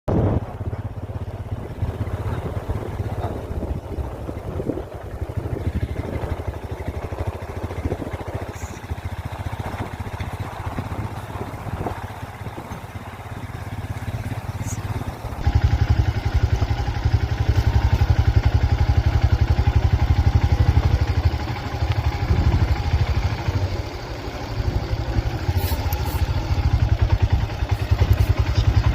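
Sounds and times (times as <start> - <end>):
road noise: 0.1 - 28.9
vehicle engine running: 0.1 - 28.9.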